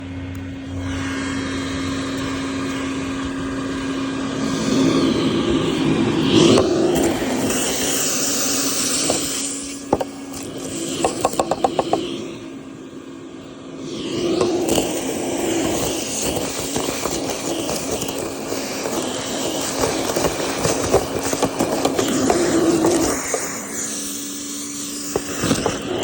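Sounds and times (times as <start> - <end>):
vacuum running: 0.0 - 26.0.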